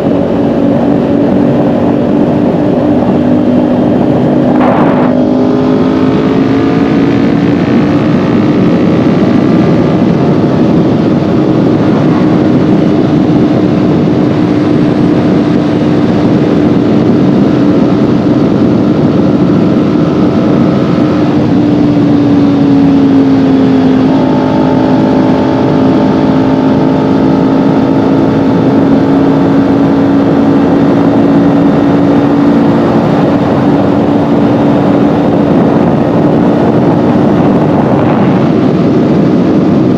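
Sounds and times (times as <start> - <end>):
motorcycle engine cruising: 0.0 - 39.9
wind rush: 0.0 - 39.9.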